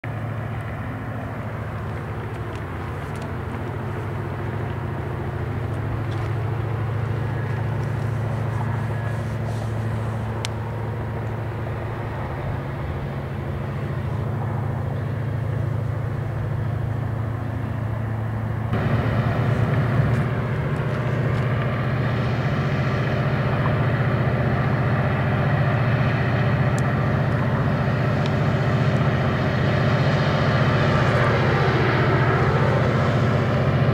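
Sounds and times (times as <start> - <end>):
diesel locomotive engine drone: 0.0 - 33.9.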